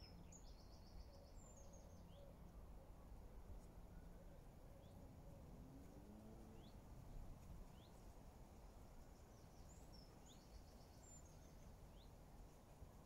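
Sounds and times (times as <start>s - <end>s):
distant small birds chirping: 0.0s - 13.0s
faint outdoor background noise: 0.0s - 13.0s.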